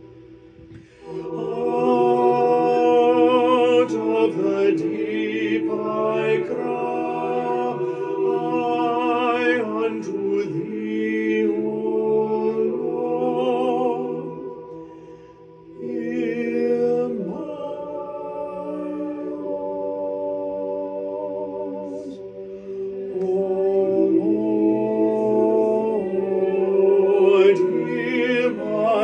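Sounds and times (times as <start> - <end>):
voices singing a cappella: 0.0 - 29.0.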